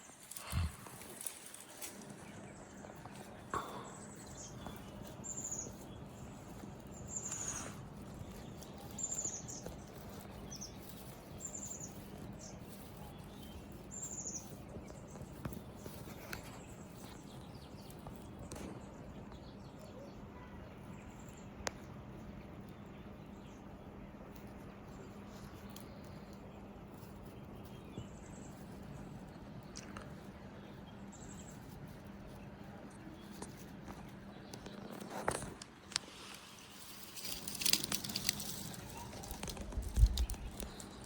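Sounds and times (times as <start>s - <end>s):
small bird chirping: 0.0s - 22.1s, 24.6s - 41.0s
faint background noise: 0.0s - 41.0s.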